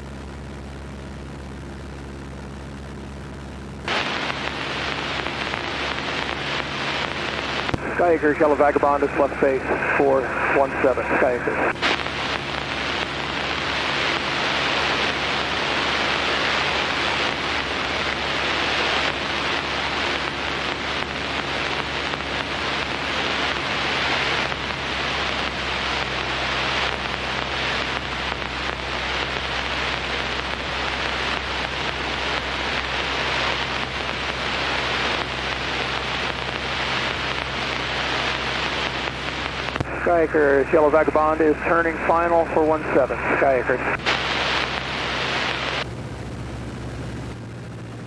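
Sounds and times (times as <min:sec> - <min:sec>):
airplane engine drone: 0:00.0 - 0:48.0.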